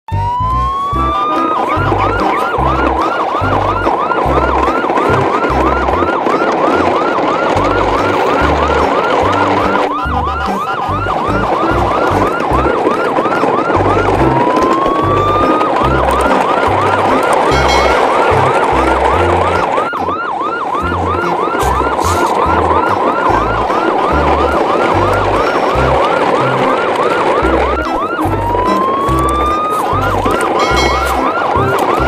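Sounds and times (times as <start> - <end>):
electronic siren wailing and whooping: 0.1 - 32.0.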